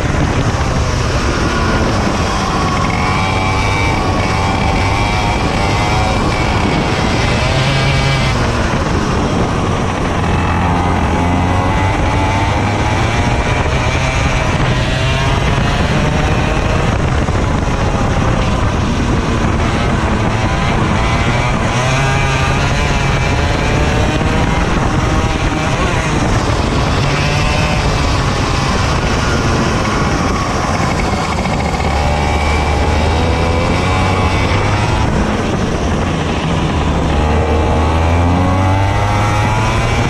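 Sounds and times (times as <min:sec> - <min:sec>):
kart engine revving: 0:00.0 - 0:40.0.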